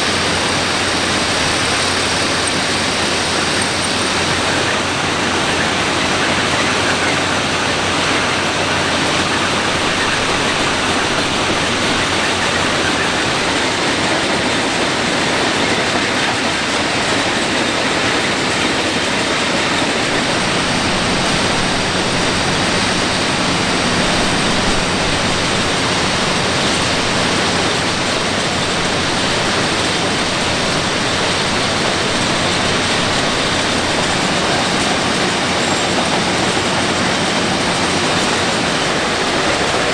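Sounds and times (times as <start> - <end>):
heavy machinery din: 0.0 - 39.9.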